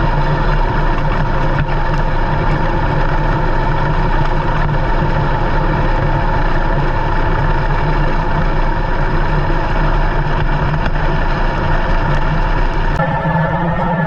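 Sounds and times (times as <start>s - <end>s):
race car engine running low revs: 0.0s - 14.0s.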